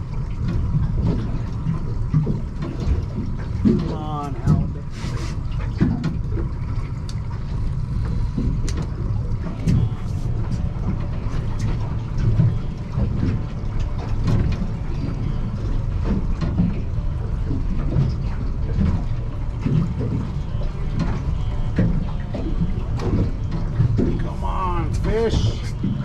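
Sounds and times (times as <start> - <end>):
boat rumble: 0.0 - 26.0.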